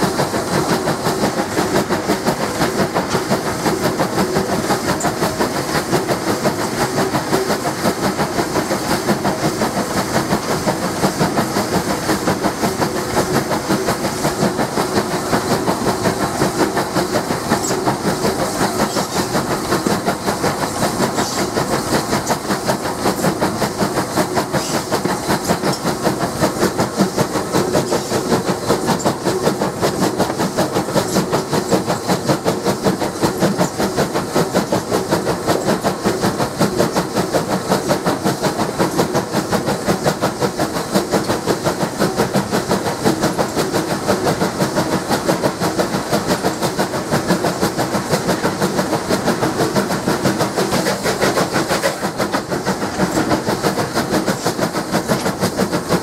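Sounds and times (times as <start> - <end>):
steam locomotive exhaust chuffing: 0.0 - 56.0.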